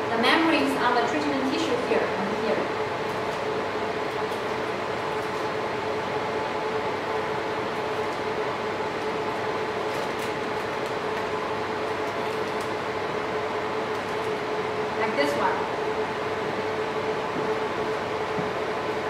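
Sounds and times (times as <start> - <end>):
fans humming: 0.0 - 19.0.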